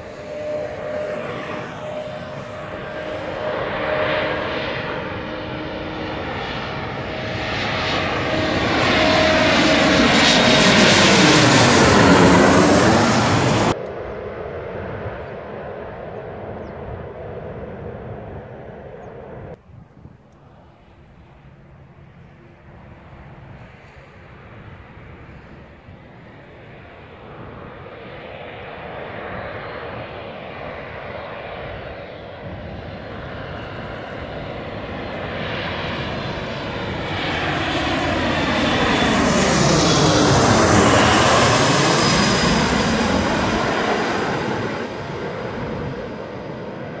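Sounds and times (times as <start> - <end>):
jet engines passing overhead: 0.0 - 47.0.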